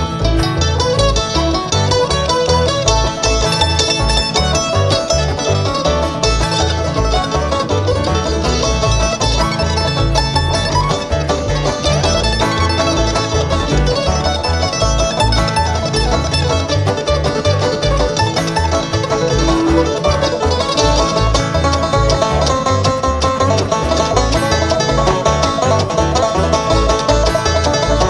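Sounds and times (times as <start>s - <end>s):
alternating bass line: 0.0s - 28.0s
bluegrass string band playing: 0.0s - 28.0s
fast picked banjo: 0.0s - 28.0s.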